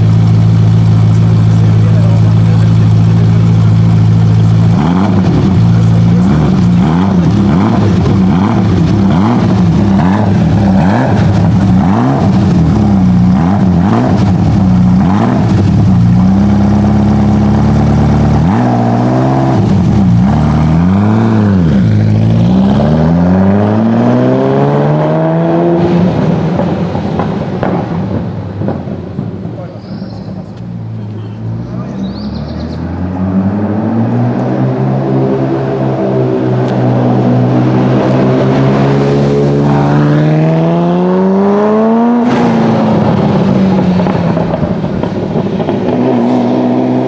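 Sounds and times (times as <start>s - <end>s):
sports car engine revving: 0.0s - 47.0s.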